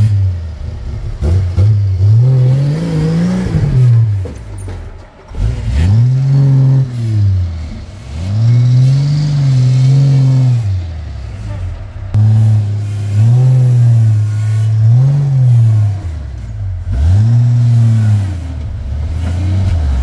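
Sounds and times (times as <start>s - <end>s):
off-road vehicle engine revving hard: 0.0s - 4.5s, 5.3s - 20.0s.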